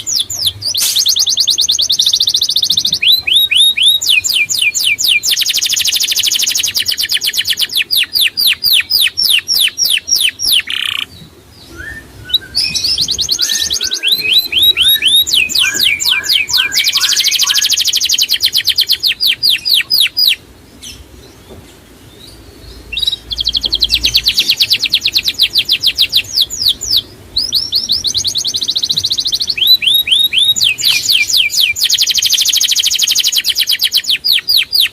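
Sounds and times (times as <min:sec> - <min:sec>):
songbird rapid high chirps: 0:00.0 - 0:21.2, 0:22.0 - 0:34.9
lower bird chirps: 0:00.0 - 0:34.9.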